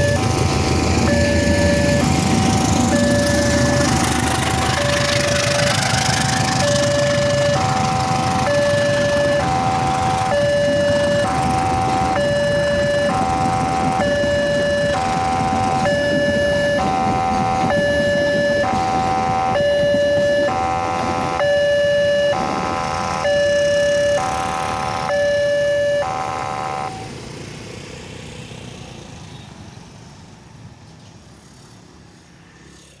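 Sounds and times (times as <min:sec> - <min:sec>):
level crossing siren two-tone: 0:00.0 - 0:27.2.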